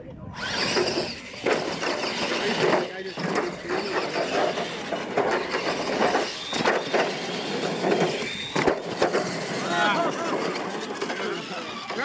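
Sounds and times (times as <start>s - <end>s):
small electric motors whining: 0.3s - 12.0s
tyres scrabbling on dirt: 0.4s - 12.0s
toy trucks knocking on jumps: 0.7s - 12.0s.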